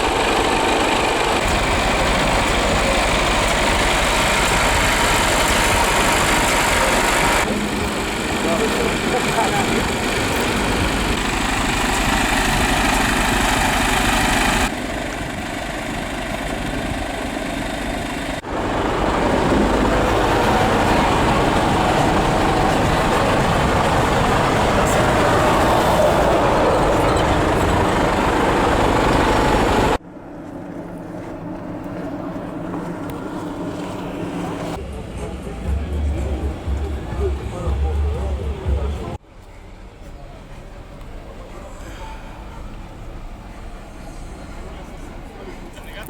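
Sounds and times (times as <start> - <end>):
truck engine running: 0.0 - 46.0.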